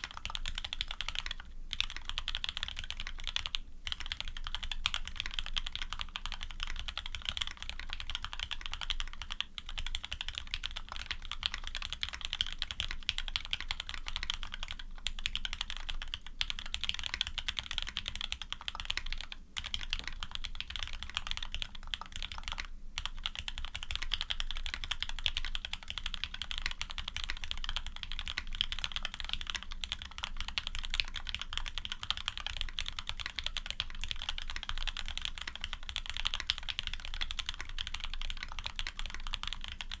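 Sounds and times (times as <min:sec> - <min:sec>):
fast mechanical keyboard typing: 0:00.0 - 0:40.0.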